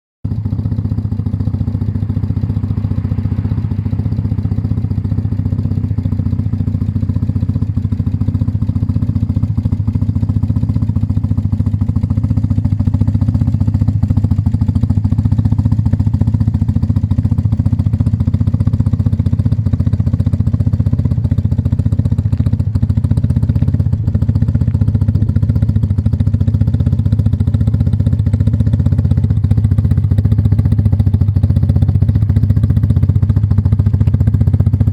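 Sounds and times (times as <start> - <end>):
motorcycle engine running: 0.2 - 34.9.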